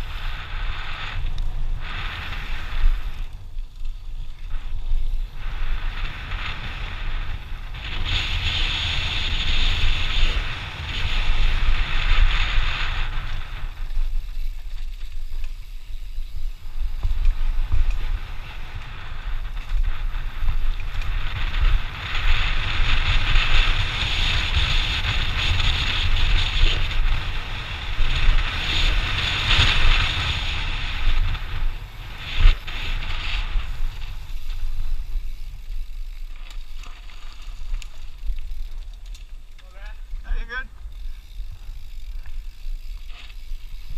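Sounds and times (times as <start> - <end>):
bike tyres and drivetrain rattling: 0.0 - 43.9
wind buffeting microphone: 0.0 - 43.9.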